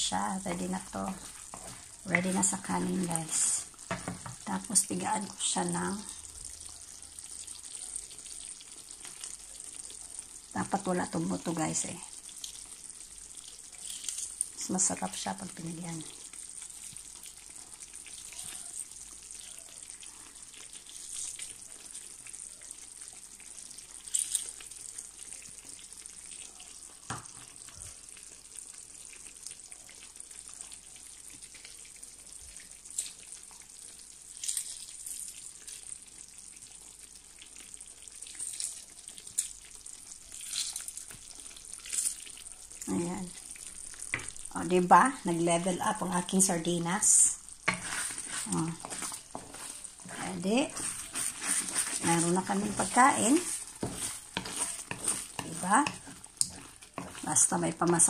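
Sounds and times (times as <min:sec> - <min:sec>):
fish sizzling in a frying pan: 0:00.0 - 0:58.0.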